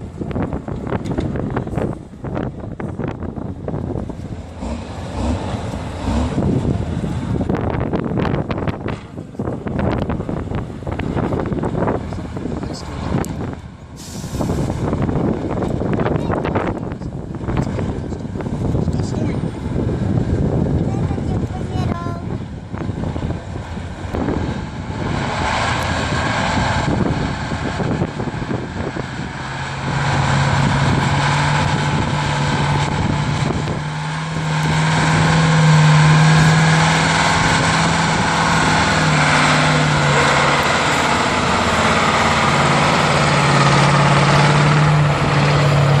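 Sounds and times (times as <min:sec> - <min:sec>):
truck engine running at high revs: 0:00.0 - 0:46.0.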